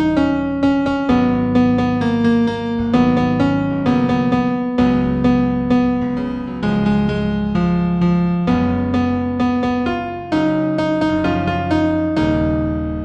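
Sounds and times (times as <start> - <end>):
piano piece: 0.0 - 13.0.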